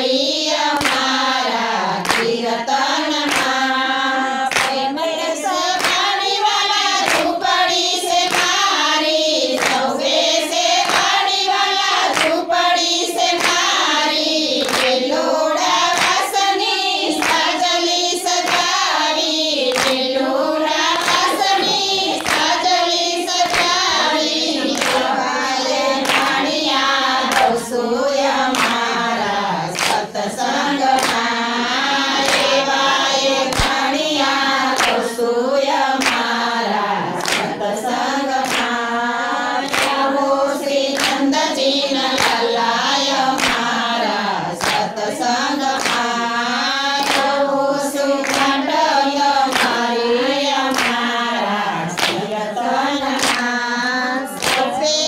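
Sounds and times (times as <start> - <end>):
hands clapping a steady beat: 0.0 - 55.0
women singing in unison: 0.0 - 55.0.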